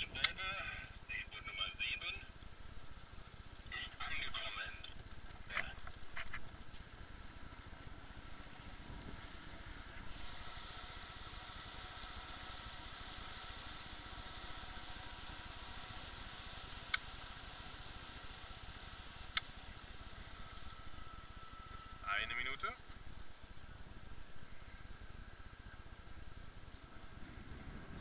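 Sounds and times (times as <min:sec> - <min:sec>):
wind and water hiss: 0:00.0 - 0:28.0
motorboat engine running: 0:01.8 - 0:28.0.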